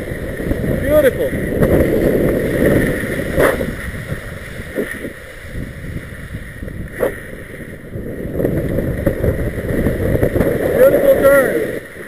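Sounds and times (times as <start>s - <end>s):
skis scraping over snow: 0.0s - 12.0s
wind buffeting microphone: 0.0s - 12.0s.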